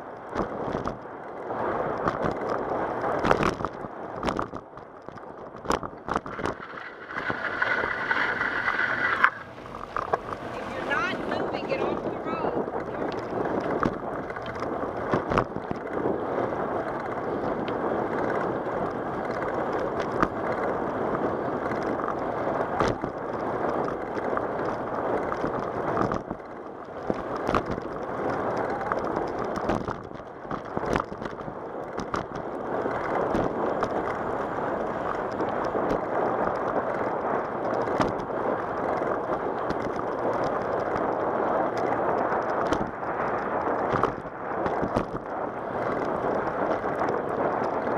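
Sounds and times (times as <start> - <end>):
bicycle rolling on asphalt: 0.0 - 47.9
wind rushing over microphone: 0.0 - 47.9
bicycle knocking over cracks: 1.9 - 10.6, 12.7 - 47.9.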